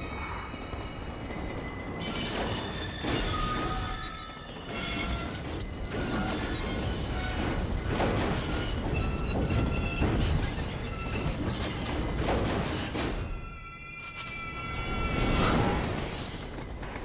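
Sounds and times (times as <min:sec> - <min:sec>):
train wheels screeching on rails: 0:00.0 - 0:17.0.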